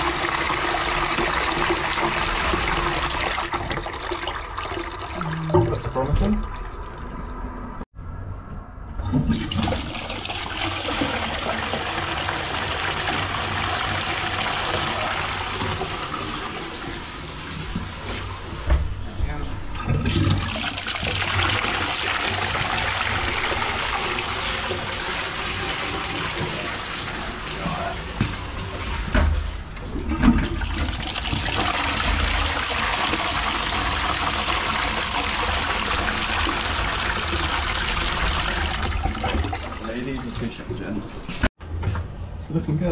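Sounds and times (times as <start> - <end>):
toilet flushing: 0.0 - 7.8, 9.0 - 18.8, 19.7 - 41.4.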